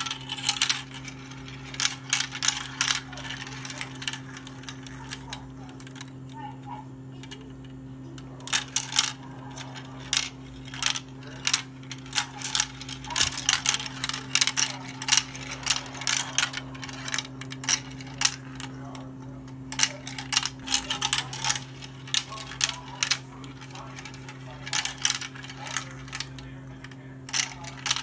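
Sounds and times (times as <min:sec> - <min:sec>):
glass marbles clacking on plastic track: 0:00.0 - 0:06.2, 0:07.2 - 0:28.0.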